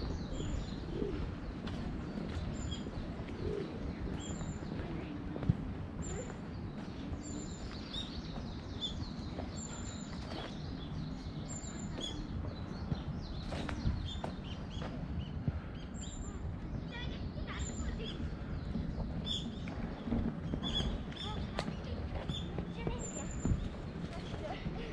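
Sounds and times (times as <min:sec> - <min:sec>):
low outdoor background noise: 0:00.0 - 0:24.9
small birds chirping: 0:00.0 - 0:24.9.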